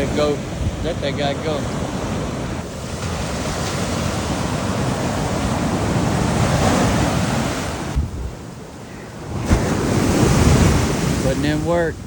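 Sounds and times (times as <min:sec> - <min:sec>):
ocean surf on a beach: 0:00.0 - 0:12.0
wind buffeting the microphone: 0:00.0 - 0:12.0.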